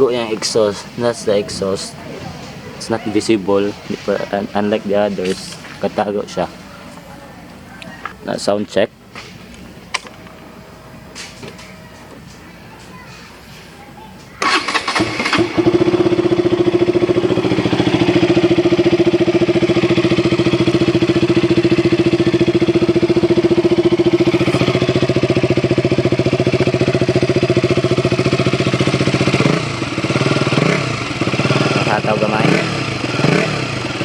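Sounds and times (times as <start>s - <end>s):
motorcycle engine idling: 0.0s - 8.2s, 14.4s - 34.0s.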